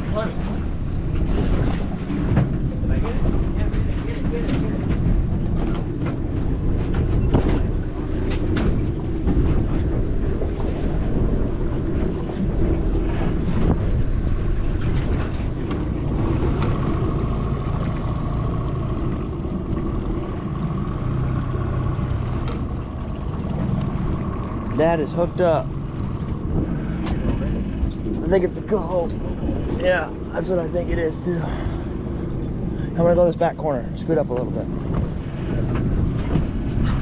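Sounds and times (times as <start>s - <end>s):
boat motor running: 0.0s - 37.0s
wind: 0.0s - 37.0s.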